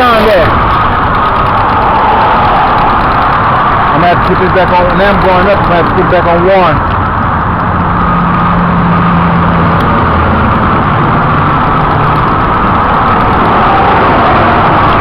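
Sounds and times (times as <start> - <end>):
engine running low hum: 0.0 - 15.0
road noise: 0.0 - 15.0.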